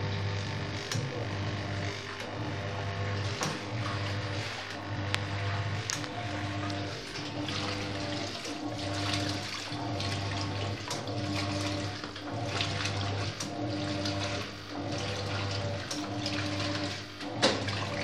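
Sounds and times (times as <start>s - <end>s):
washing machine motor hum: 0.0s - 18.0s
water sloshing and churning: 2.0s - 18.0s.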